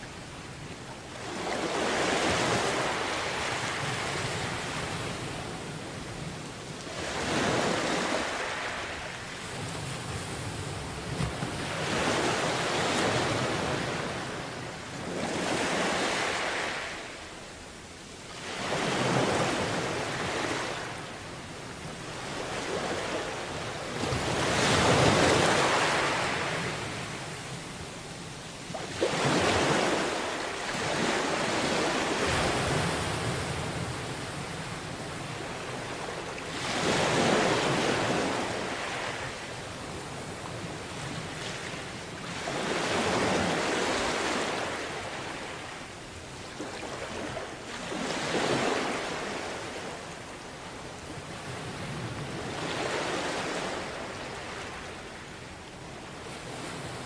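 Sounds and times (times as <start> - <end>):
sea waves washing onto beach: 0.0 - 17.6, 18.4 - 57.0.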